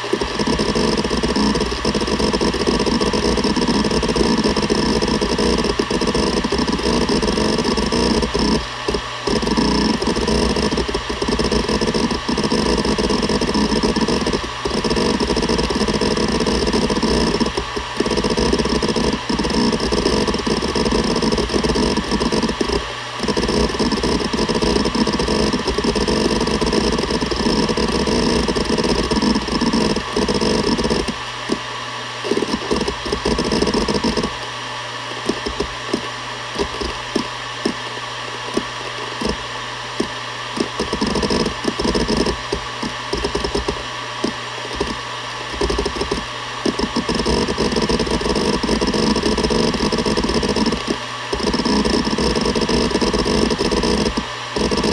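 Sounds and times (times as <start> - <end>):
hard drive humming and whining: 0.0 - 54.9
hard drive seek clicks: 0.0 - 54.9.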